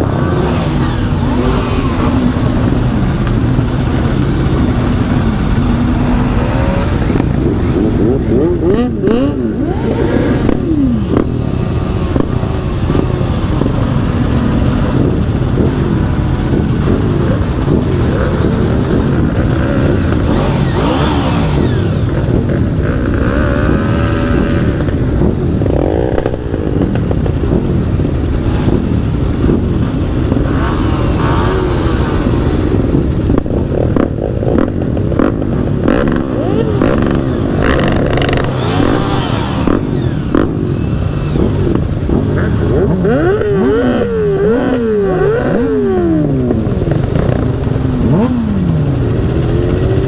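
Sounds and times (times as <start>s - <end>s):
motorcycle engines revving: 0.0s - 50.0s.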